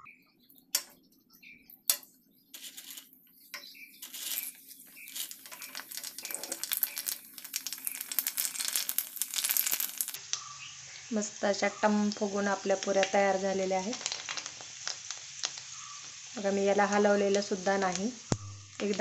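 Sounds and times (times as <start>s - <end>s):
food frying in hot oil: 2.6s - 19.0s.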